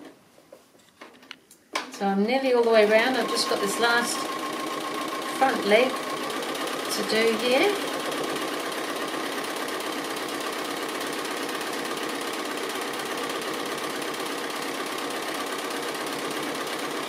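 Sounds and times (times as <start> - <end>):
sewing machine stitching: 2.6 - 17.0.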